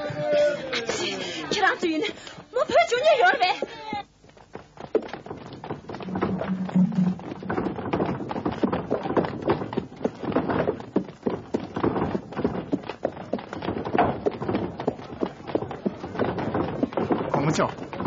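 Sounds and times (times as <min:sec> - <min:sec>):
horse hooves clip-clopping: 0:02.7 - 0:18.0.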